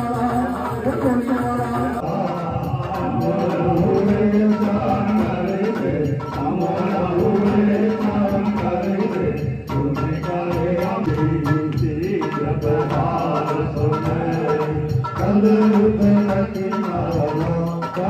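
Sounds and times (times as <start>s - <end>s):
devotional hymn over loudspeakers: 0.0s - 18.0s
steady percussion beat: 0.0s - 18.0s.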